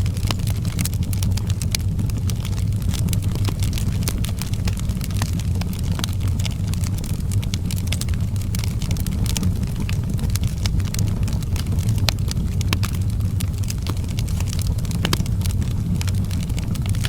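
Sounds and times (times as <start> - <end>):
fire crackling and popping: 0.0 - 17.0
steady low rumble: 0.0 - 17.0.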